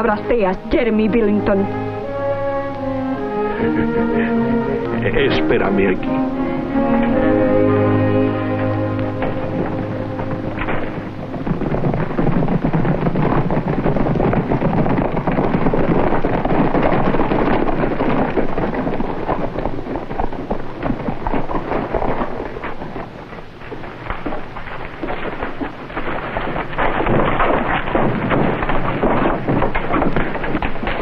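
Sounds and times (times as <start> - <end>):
horse hoofbeats on dirt: 0.0 - 3.8, 4.9 - 31.0.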